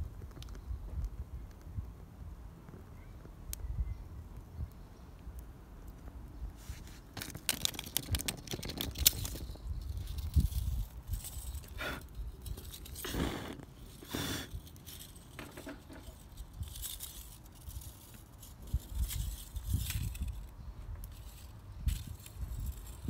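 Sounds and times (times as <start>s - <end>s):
crackling and scraping: 4.4s - 23.0s.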